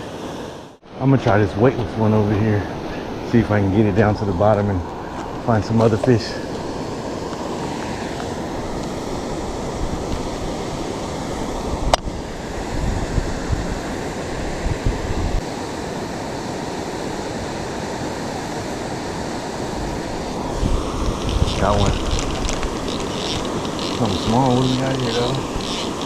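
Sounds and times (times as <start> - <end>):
waterfall rushing: 1.4 - 26.0
wind rumbling on microphone: 1.4 - 26.0.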